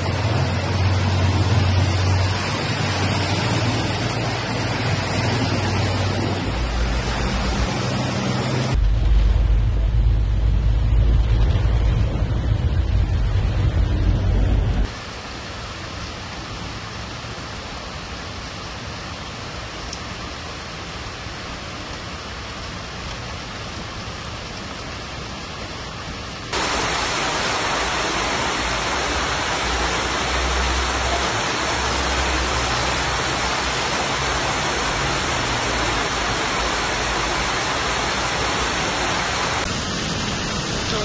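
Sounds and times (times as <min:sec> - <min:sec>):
floodwater cascading down steps: 0:00.0 - 0:13.9, 0:14.8 - 0:41.0
heavy rain hissing: 0:00.0 - 0:41.0.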